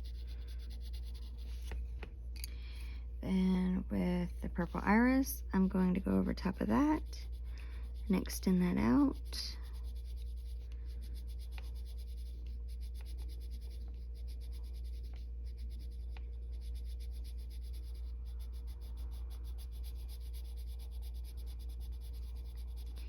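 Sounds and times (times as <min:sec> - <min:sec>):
coloured pencil scratching on paper: 0:00.0 - 0:01.8, 0:03.2 - 0:23.0
steady low hum: 0:00.0 - 0:23.0.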